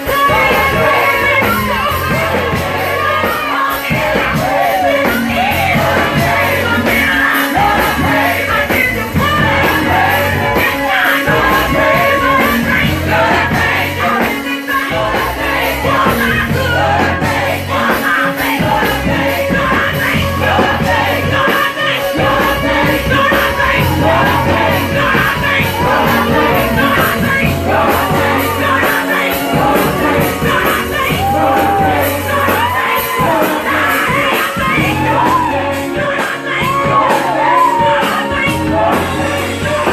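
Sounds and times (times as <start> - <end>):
gospel band with bass line: 0.0 - 39.9
people singing: 0.0 - 39.9.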